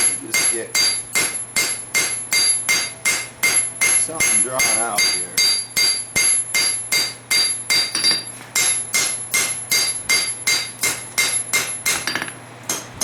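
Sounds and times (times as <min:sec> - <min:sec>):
hammer striking metal on anvil: 0:00.0 - 0:13.0
metallic ring: 0:00.8 - 0:12.4.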